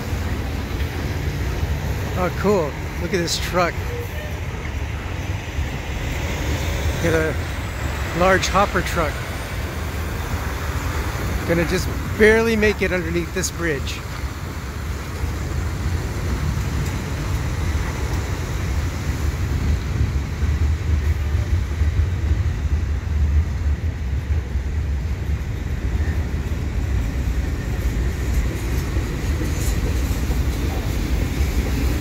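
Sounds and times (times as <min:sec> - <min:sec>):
freight cars rumbling on bridge: 0:00.0 - 0:32.0
road traffic passing: 0:00.0 - 0:32.0.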